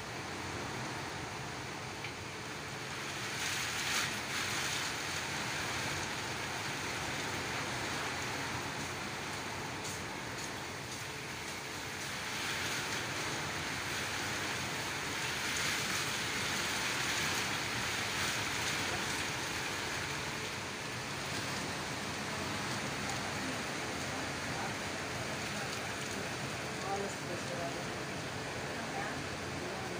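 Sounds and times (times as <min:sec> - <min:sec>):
heavy rain and wind: 0:00.0 - 0:29.9.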